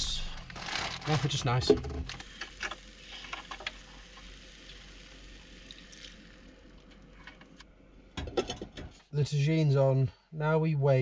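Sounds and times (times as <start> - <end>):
faint steady hiss: 0.0 - 8.2, 8.8 - 11.0.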